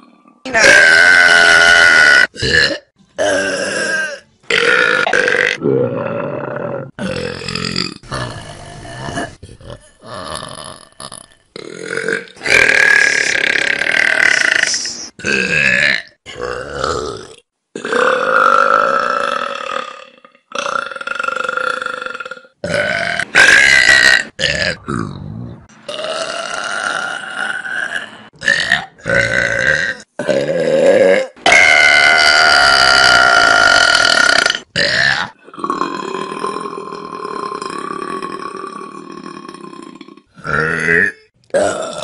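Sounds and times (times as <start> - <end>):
loud drawn-out burps: 0.0 - 42.0.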